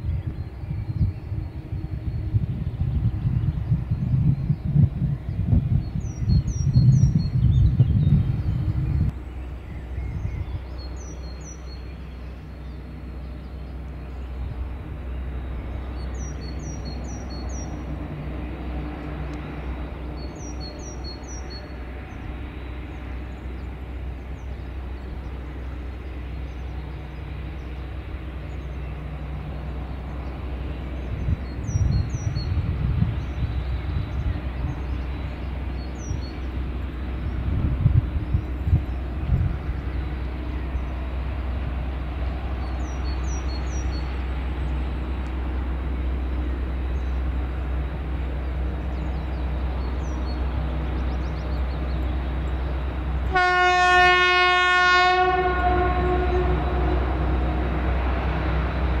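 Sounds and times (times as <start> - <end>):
diesel locomotive engine droning: 0.0 - 59.0.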